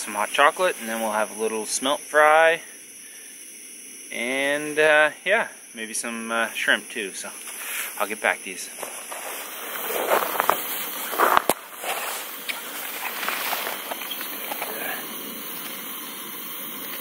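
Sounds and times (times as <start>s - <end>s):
camp stove hissing: 0.0s - 17.0s.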